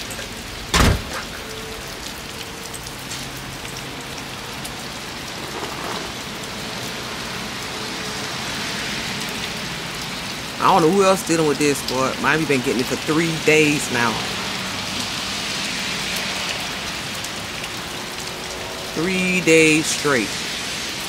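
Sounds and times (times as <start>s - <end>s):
rain on wet ground: 0.0s - 21.0s.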